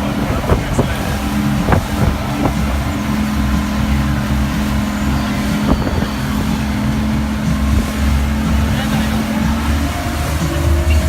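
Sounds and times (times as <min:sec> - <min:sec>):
motorboat engine running: 0:00.0 - 0:11.0
wind noise on microphone: 0:00.0 - 0:11.0.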